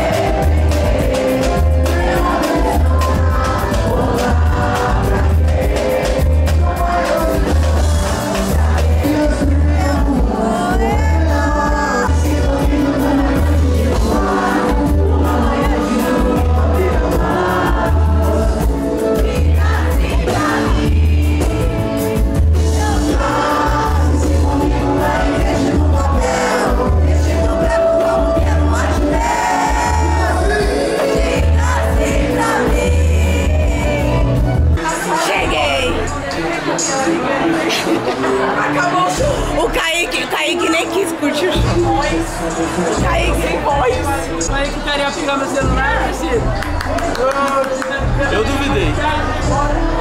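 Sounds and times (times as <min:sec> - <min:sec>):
lead singer: 0:00.0 - 0:44.4, 0:45.6 - 0:50.0
crowd singing along: 0:00.0 - 0:50.0
live band playing: 0:00.0 - 0:50.0.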